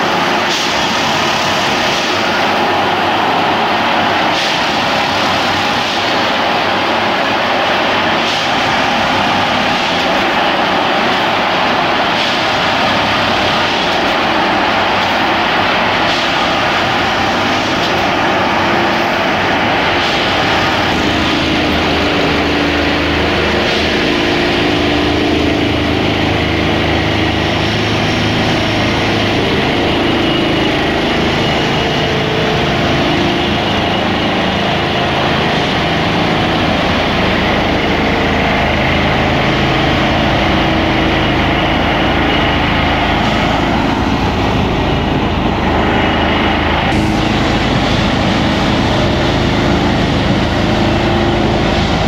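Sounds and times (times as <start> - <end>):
track tamping machine running: 0.0 - 52.0.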